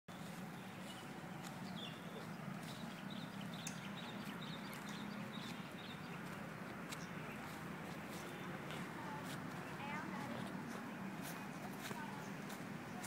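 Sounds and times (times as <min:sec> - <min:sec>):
small birds chirping faintly: 0:00.1 - 0:13.0.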